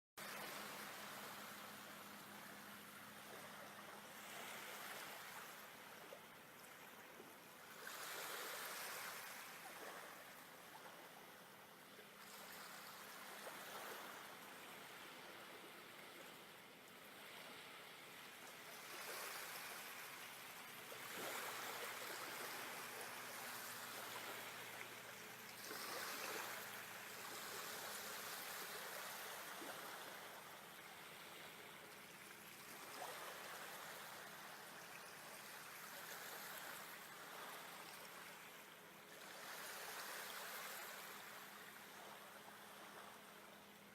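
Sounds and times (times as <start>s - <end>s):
faint rushing water: 0.2s - 43.9s.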